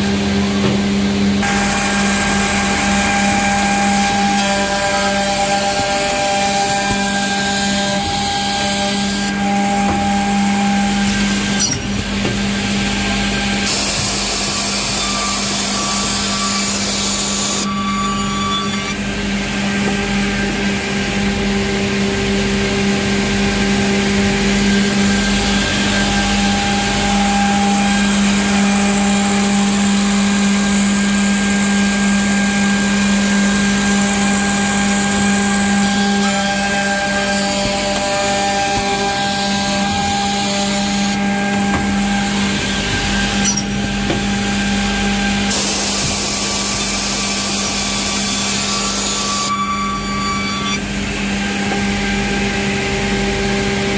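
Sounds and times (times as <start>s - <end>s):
machine motors humming: 0.0s - 53.9s.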